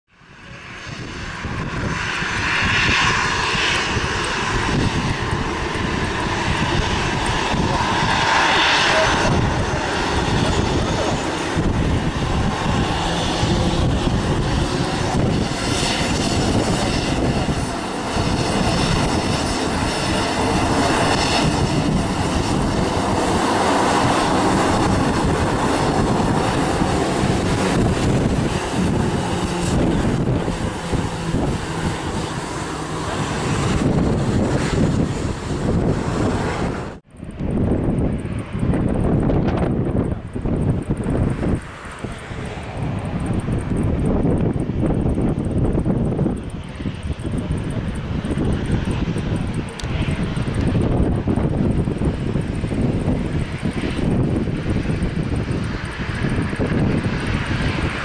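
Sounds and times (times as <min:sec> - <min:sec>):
jet engines roaring: 0:00.1 - 0:58.0.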